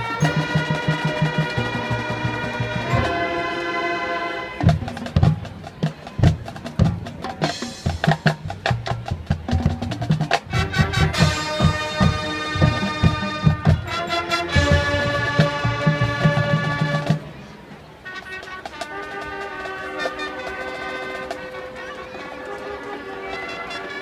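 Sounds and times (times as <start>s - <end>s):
drums and percussion: 0.0s - 3.8s, 4.6s - 17.4s, 18.1s - 23.0s
marching band playing: 0.0s - 24.0s.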